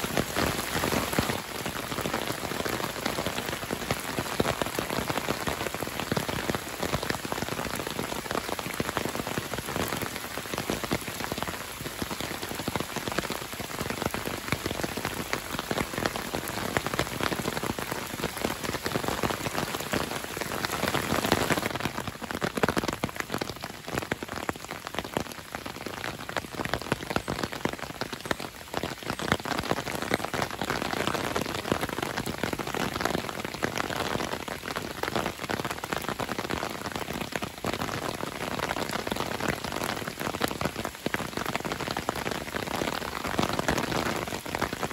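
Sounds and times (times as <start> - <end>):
rain falling on lake water: 0.0 - 44.9.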